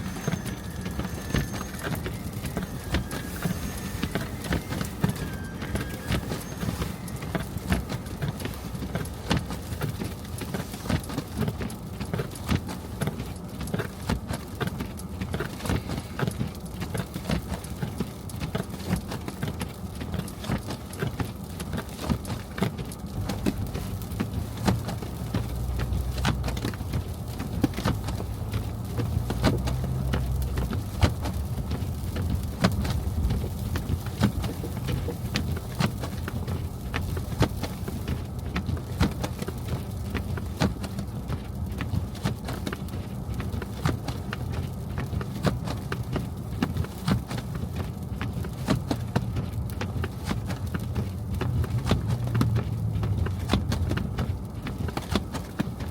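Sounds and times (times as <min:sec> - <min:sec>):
car road rumble: 0:00.0 - 0:55.9.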